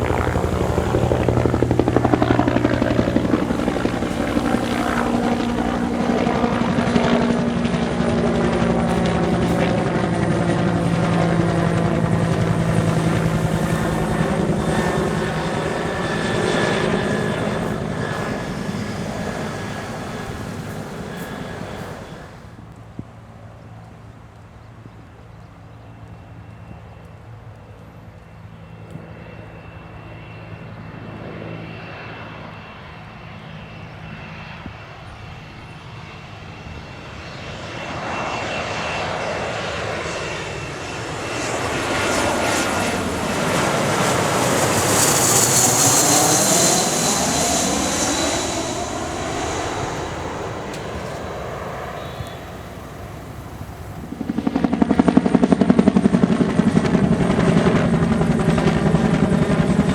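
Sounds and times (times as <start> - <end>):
helicopter running loudly: 0.0 - 22.7, 25.3 - 59.9
jet engines passing with high whine: 0.0 - 59.9.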